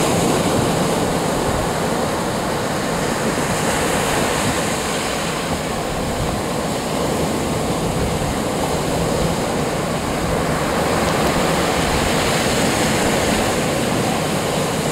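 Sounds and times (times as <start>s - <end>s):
surf breaking on sand beach: 0.0s - 14.9s
wind rumbling on microphone: 0.0s - 14.9s.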